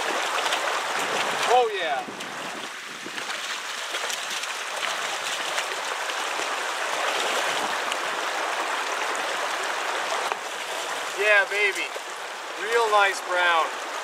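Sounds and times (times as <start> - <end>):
creek water rushing over rocks: 0.0 - 14.0.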